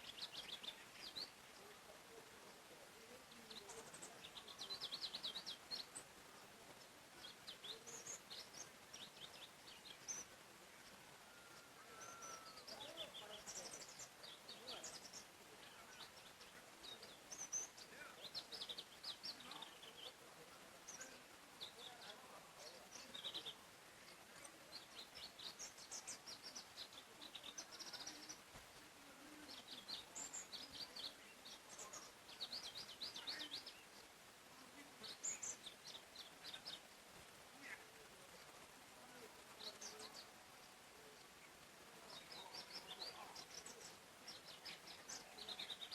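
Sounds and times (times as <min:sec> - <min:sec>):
soft steady hiss: 0:00.0 - 0:45.9
songbirds chirping and trilling: 0:00.0 - 0:45.9.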